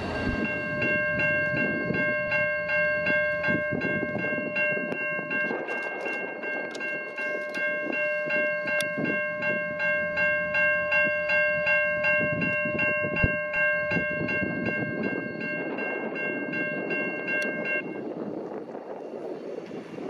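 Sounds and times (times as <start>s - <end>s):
level crossing bell ringing: 0.0s - 18.0s
train rumble: 0.0s - 20.0s.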